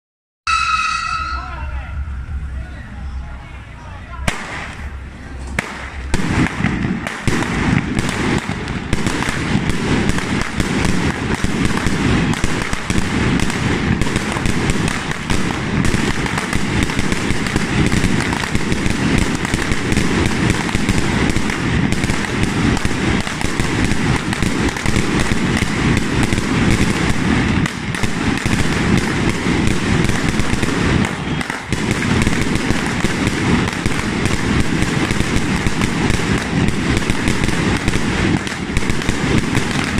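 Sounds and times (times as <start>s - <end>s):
fireworks cracking and popping: 4.2s - 39.9s.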